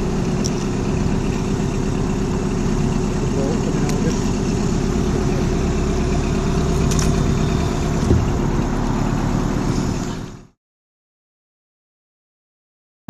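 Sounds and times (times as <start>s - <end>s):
outboard motor running: 0.0s - 10.6s.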